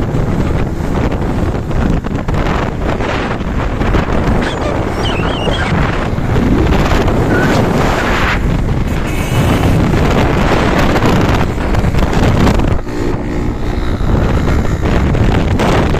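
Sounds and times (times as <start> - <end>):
low rumble of road noise: 0.0 - 15.9
wind buffeting microphone: 0.0 - 15.9.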